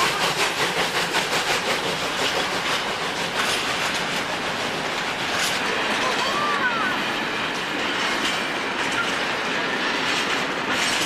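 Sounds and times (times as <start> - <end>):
steam locomotive exhaust beats: 0.0 - 11.0
wagon wheels clicking over rail joints: 0.0 - 11.0.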